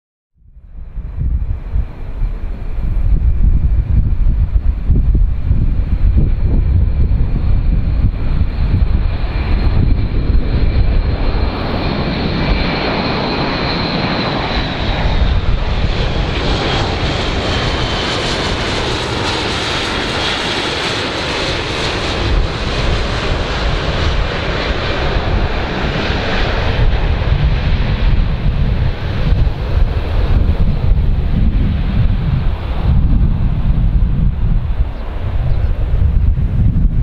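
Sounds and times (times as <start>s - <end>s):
high engine whine: 0.4s - 37.0s
turboprop aircraft drone: 0.4s - 37.0s.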